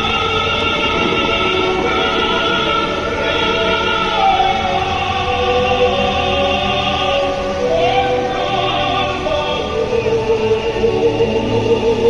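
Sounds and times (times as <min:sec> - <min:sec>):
choir singing long held notes: 0:00.0 - 0:12.0.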